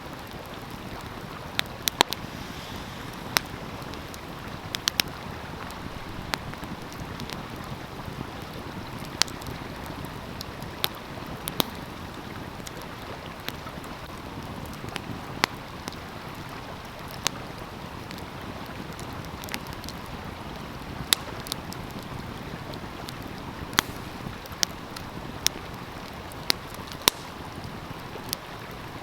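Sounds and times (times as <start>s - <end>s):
flowing stream: 0.0s - 29.0s
wood fire crackling and popping: 0.1s - 29.0s.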